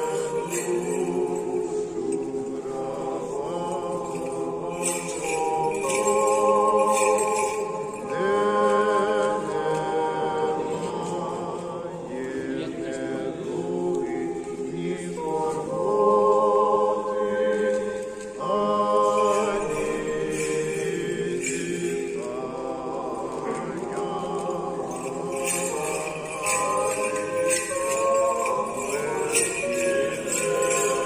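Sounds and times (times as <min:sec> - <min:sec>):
choir chanting a cappella: 0:00.0 - 0:31.0.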